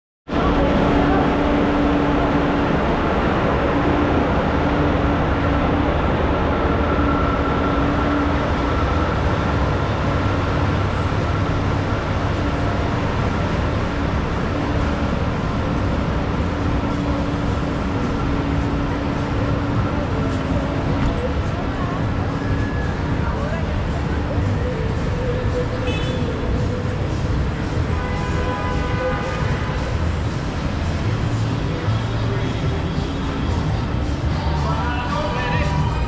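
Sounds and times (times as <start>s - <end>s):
low city hum: 0.3s - 36.0s.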